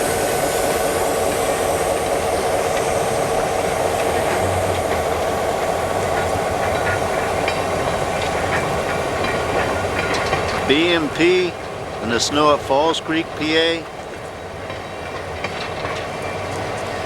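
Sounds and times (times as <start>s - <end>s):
train rolling past: 0.0s - 17.0s
wheels clicking over rail joints: 0.3s - 17.0s.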